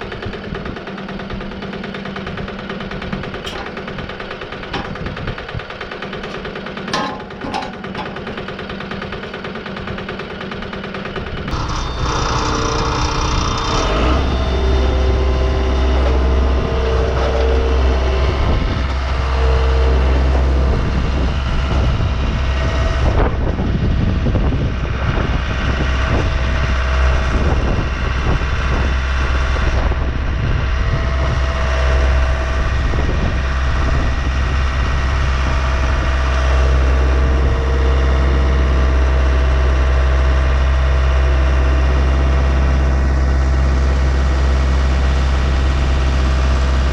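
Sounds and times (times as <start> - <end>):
band sawmill running: 0.0 - 46.9.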